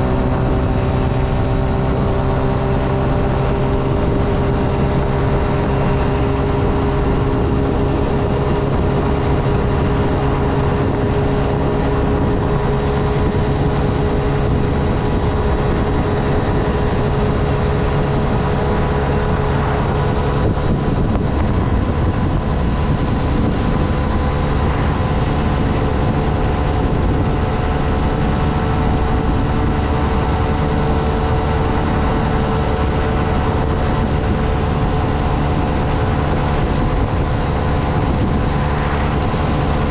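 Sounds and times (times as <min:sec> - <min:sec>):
small motorcycle engine running: 0:00.0 - 0:39.9
wind noise on microphone: 0:00.0 - 0:39.9.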